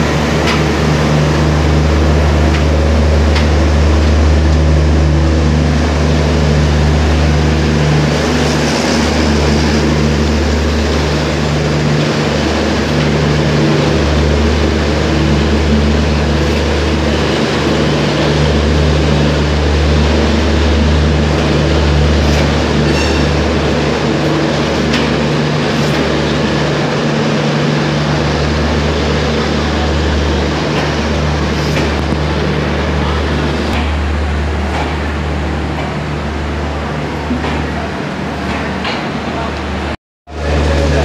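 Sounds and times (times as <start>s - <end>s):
train coaches rolling past: 0.0s - 41.0s.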